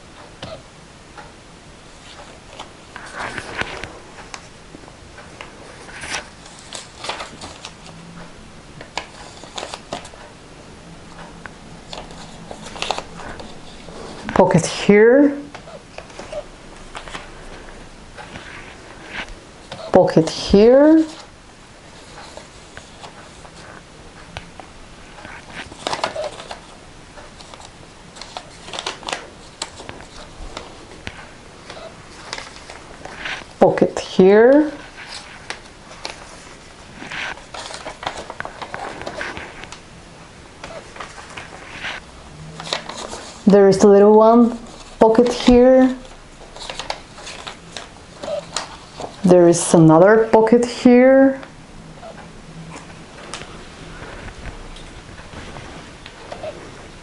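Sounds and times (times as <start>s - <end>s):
paper rustling and crinkling: 1.9s - 4.6s, 5.2s - 8.0s, 8.8s - 10.4s, 11.1s - 39.9s, 40.6s - 43.5s, 44.3s - 49.3s, 52.1s - 57.0s.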